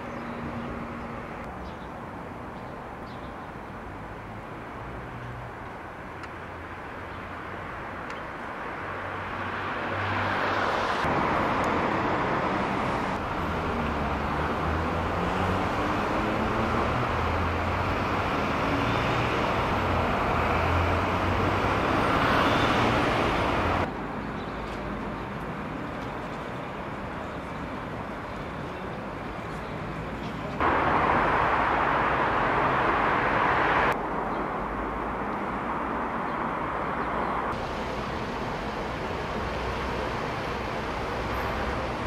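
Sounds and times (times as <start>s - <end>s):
city traffic hum and rumble: 0.0s - 42.0s.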